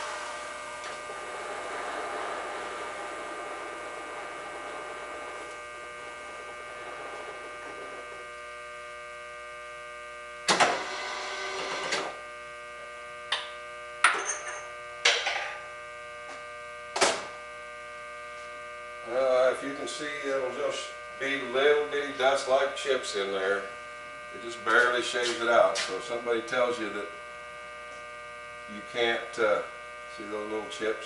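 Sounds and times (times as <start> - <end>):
boring mill spindle humming: 0.0 - 31.0.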